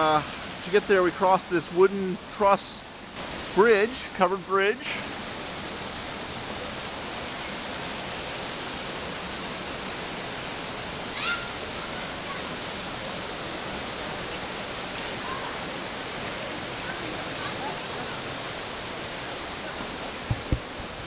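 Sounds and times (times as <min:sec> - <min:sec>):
water rushing over falls: 0:00.0 - 0:21.0.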